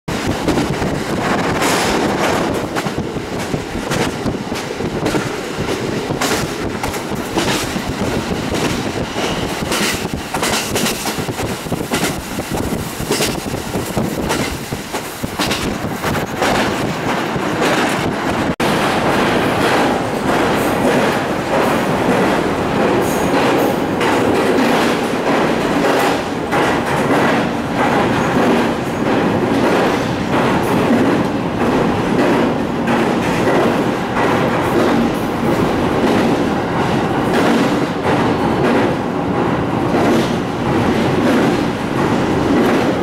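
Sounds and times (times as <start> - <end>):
train wheels rumbling on rail: 0.1 - 43.0
wheels clacking over rail joints: 0.1 - 43.0.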